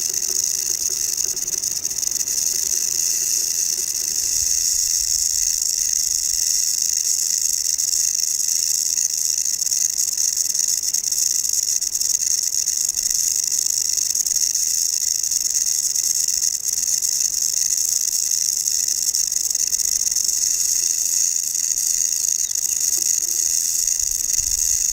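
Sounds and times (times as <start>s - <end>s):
rattlesnake tail rattle buzzing: 0.0s - 24.9s.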